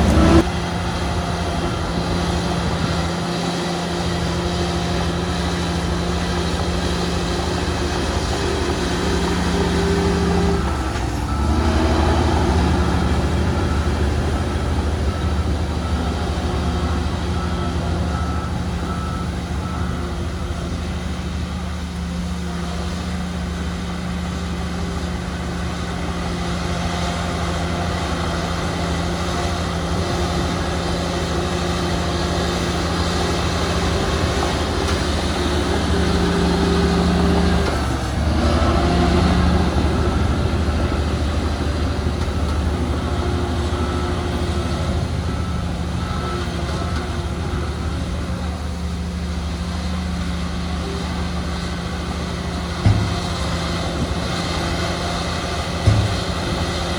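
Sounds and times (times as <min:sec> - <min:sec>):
diesel machinery rumbling: 0:00.0 - 0:56.9.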